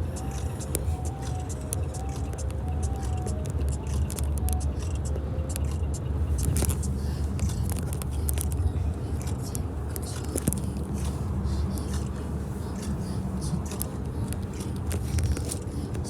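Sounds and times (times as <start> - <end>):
car road and engine rumble: 0.0 - 16.0
small clicks and rattles: 0.2 - 16.0.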